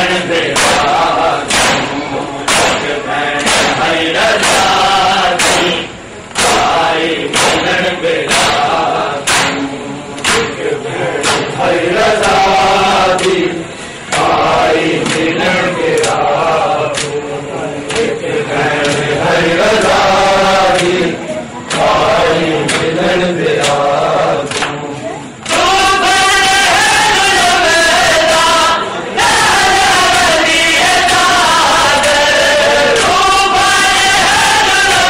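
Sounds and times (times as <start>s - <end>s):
men chanting a lament: 0.0s - 35.0s.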